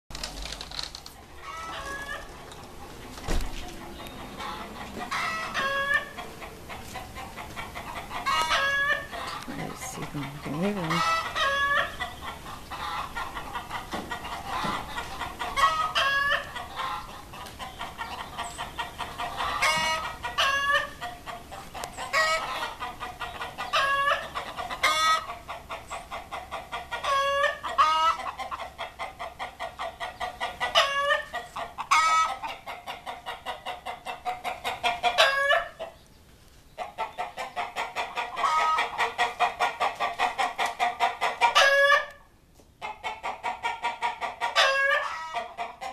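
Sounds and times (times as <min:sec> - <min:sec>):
chicken clucking and squawking: 0:01.2 - 0:36.1, 0:36.7 - 0:45.9.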